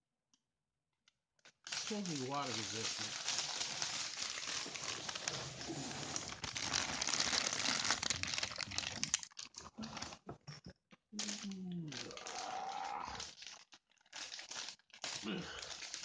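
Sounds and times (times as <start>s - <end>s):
plastic bag crinkling: 1.4s - 10.3s, 11.2s - 16.0s.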